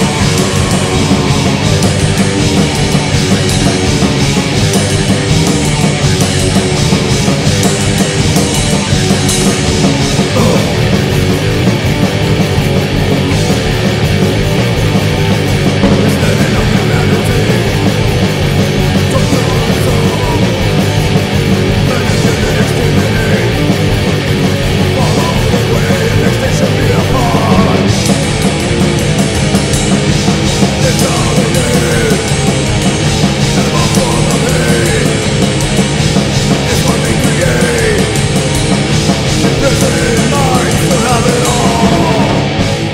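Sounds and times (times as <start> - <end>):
heavy metal music: 0.0 - 42.9.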